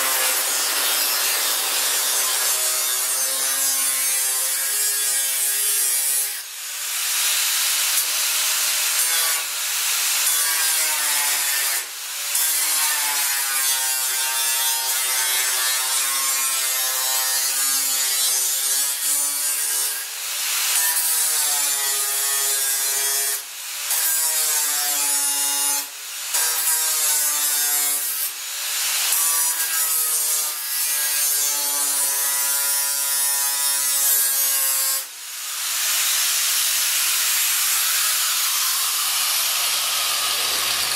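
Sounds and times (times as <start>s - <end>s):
angle grinder cutting steel: 0.0s - 40.9s.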